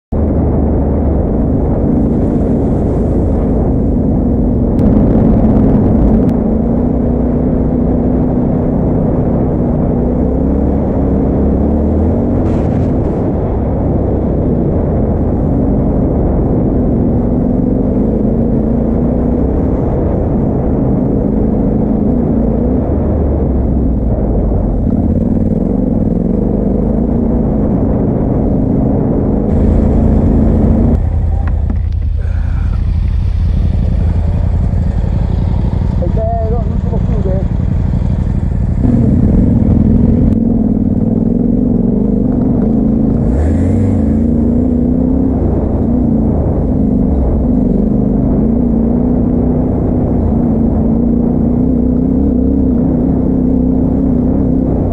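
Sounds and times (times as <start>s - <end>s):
motorcycle engine running: 0.1s - 54.9s.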